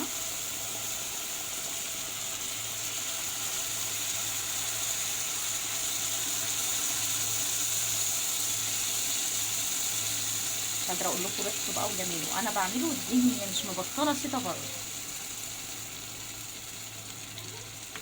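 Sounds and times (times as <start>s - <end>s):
low electrical hum: 0.0s - 18.0s
soup hissing on the stove: 0.0s - 18.0s.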